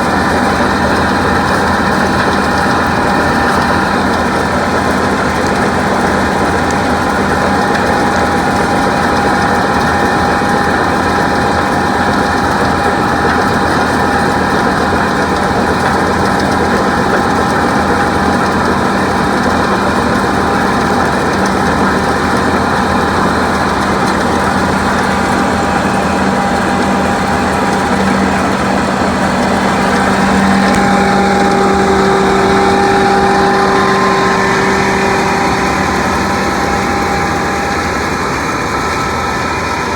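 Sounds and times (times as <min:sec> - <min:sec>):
combine harvester engine droning: 0:00.0 - 0:39.9
higher machine tone: 0:00.0 - 0:39.9.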